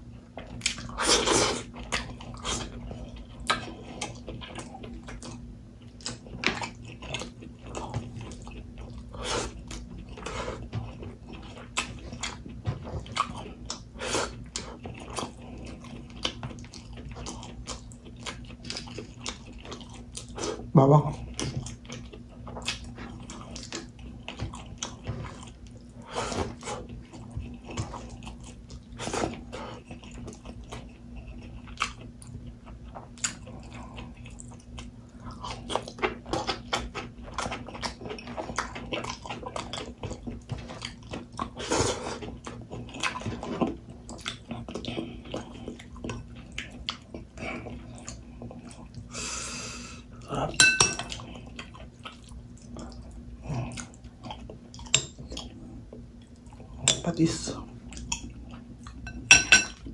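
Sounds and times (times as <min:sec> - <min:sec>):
person chewing food: 0:00.0 - 0:57.0, 0:57.6 - 0:59.9.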